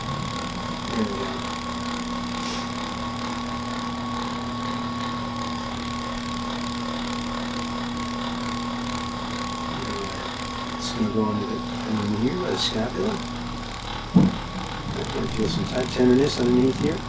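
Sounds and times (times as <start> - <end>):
electric massager motor hum: 0.0 - 17.0.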